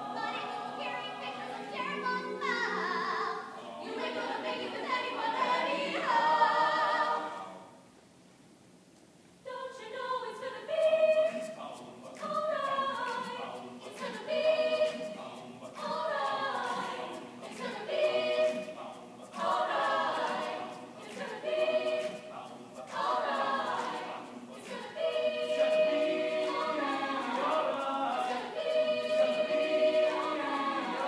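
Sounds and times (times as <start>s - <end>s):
choir singing: 0.0s - 7.8s, 9.5s - 31.0s.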